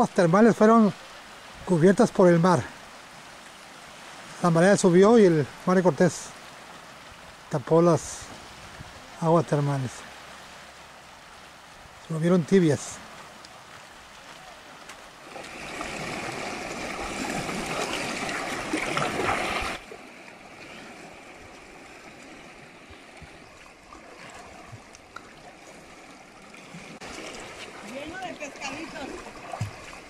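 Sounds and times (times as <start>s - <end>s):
seawater streaming over rocks: 0.0s - 30.0s
water lapping and trickling: 0.0s - 30.0s.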